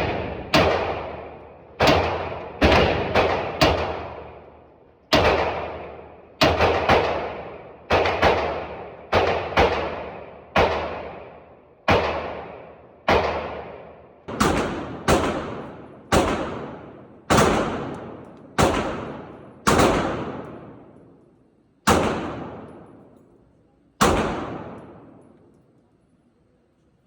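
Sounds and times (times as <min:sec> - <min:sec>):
gunshots with echoing tail: 0:00.0 - 0:23.3, 0:24.0 - 0:25.5.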